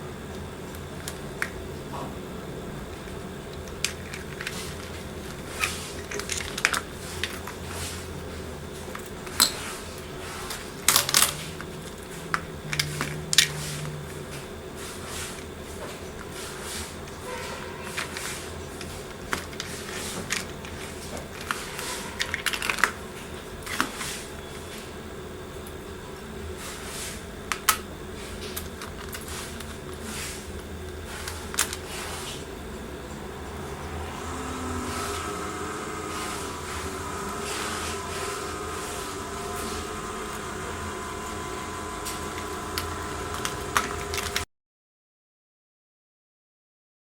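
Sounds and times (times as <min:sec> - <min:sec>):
steady low hum: 0:00.0 - 0:44.5.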